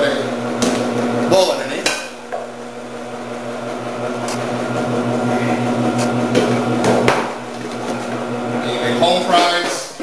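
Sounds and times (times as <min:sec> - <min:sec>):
vegetable processor motor humming: 0:00.0 - 0:09.3.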